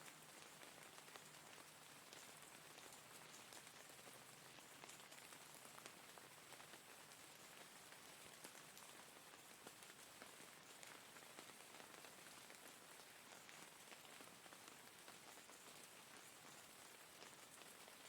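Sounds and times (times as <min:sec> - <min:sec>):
faint rainfall hiss: 0:00.0 - 0:18.0.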